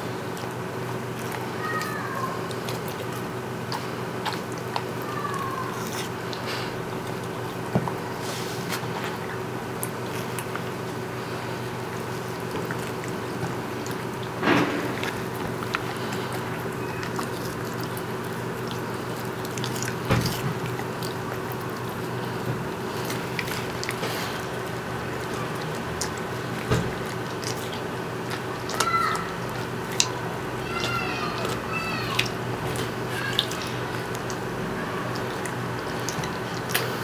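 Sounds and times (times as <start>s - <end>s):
background hum: 0.0s - 37.0s
dog chewing and lip-smacking: 0.0s - 37.0s.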